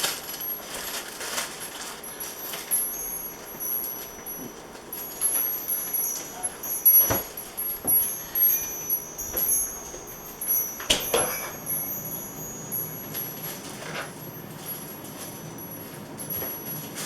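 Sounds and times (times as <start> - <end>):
wind chimes tinkling: 0.0 - 17.0.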